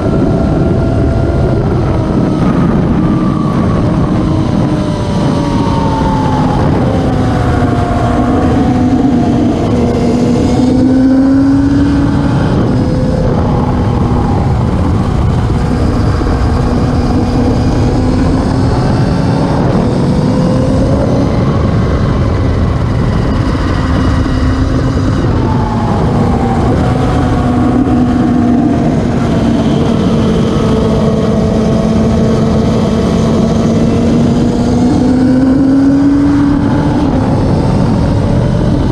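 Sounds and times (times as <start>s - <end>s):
racing motorcycle engines: 0.0s - 38.9s.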